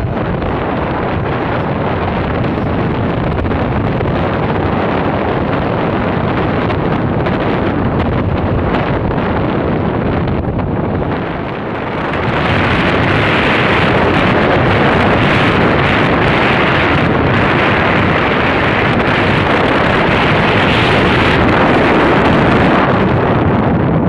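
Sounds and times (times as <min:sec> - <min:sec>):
motorcycle running: 0:00.0 - 0:24.0
wind buffeting microphone: 0:00.0 - 0:24.0.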